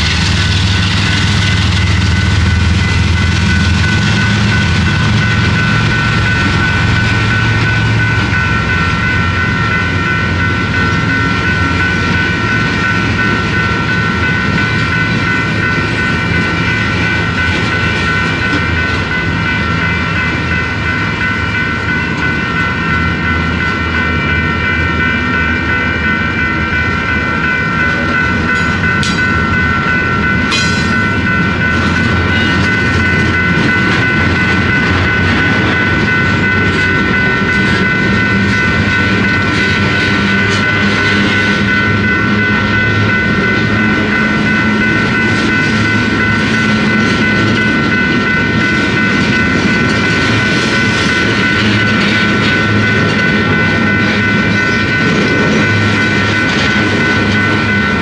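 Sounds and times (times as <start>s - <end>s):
crossing bell ringing: 0.0s - 58.0s
train clanks: 0.0s - 58.0s
train wheels rumbling on rails: 0.0s - 58.0s.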